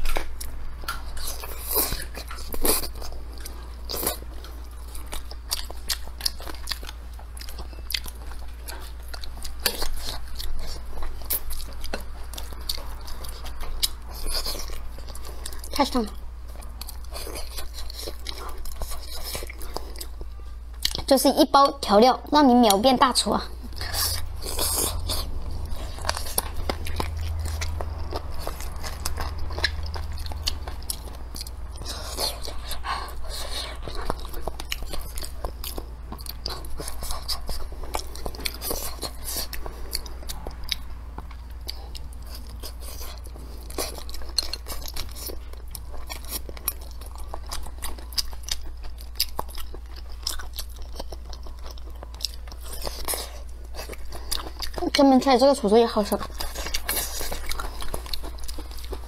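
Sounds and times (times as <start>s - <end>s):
person chewing food: 0.0s - 21.8s, 23.4s - 59.0s.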